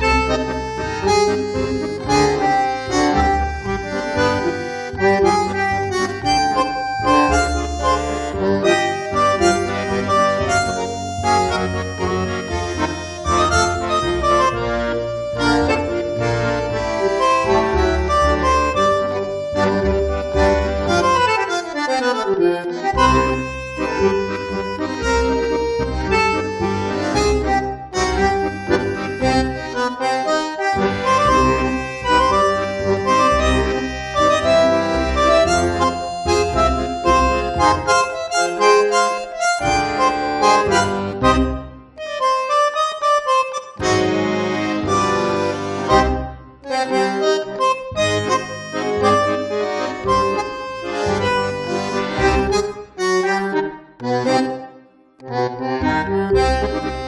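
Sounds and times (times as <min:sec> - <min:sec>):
background music with held notes: 0:00.0 - 0:57.0.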